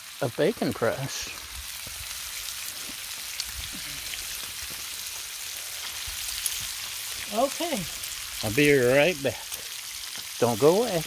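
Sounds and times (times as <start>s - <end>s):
bacon sizzling on a griddle: 0.0s - 11.0s.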